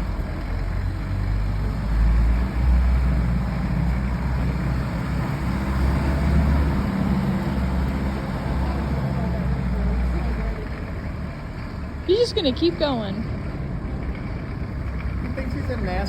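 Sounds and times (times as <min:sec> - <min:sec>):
diesel engine running: 0:00.0 - 0:16.0
road noise: 0:00.0 - 0:16.0.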